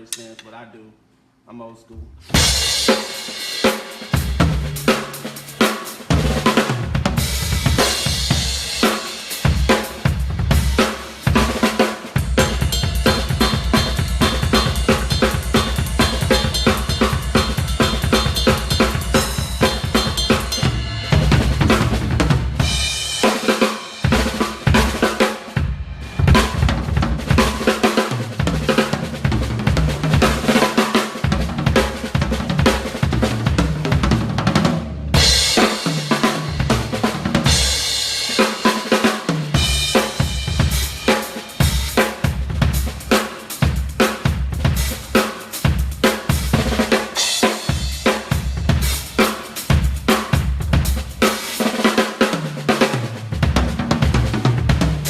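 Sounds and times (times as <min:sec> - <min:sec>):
snare drum with rimshots: 0:02.2 - 0:55.0.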